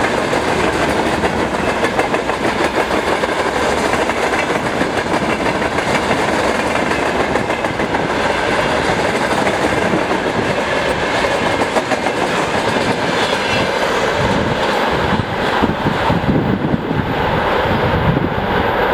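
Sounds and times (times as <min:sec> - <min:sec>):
clickety-clack over rail joints: 0:00.0 - 0:16.6
train wheels rumbling: 0:00.0 - 0:18.9.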